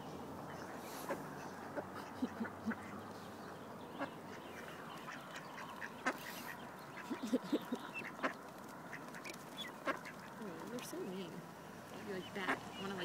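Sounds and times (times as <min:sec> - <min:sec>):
ducks quacking: 0:00.5 - 0:11.2, 0:12.0 - 0:13.0.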